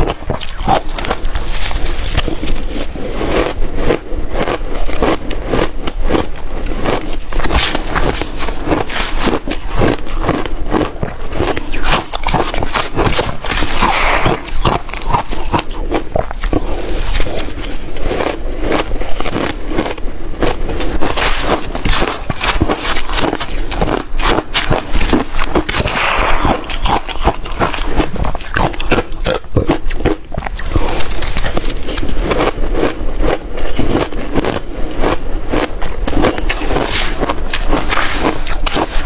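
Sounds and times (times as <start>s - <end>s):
crunching and chewing ice: 0.0s - 39.0s.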